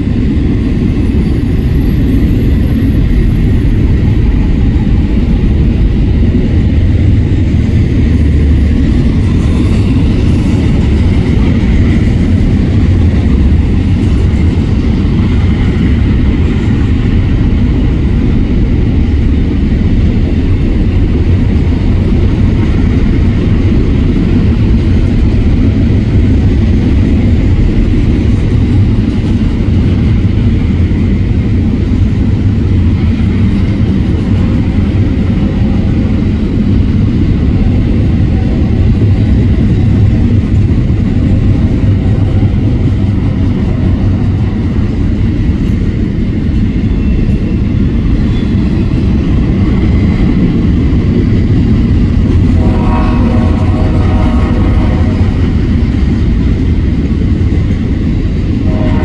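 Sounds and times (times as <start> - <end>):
freight train wheels rumbling on rail: 0.0 - 59.0.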